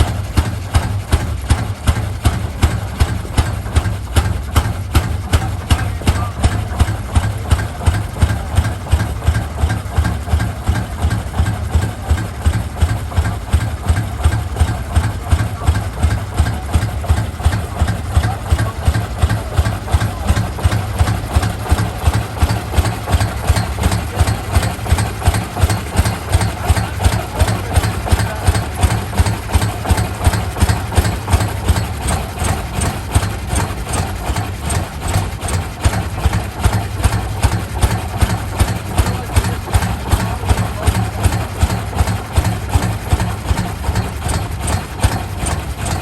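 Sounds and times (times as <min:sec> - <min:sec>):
tractor engine running steadily: 0:00.0 - 0:46.0.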